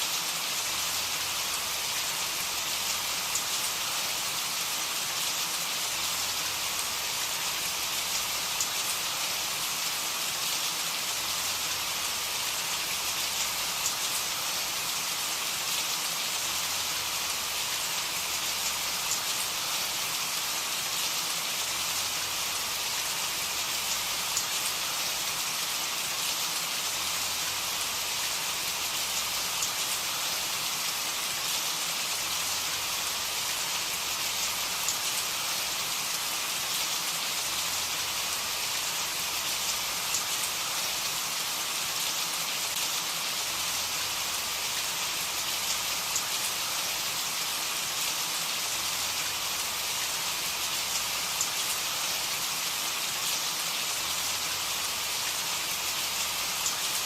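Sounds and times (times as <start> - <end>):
rain drops ticking on surface: 0.0 - 57.0
steady rain hiss: 0.0 - 57.0.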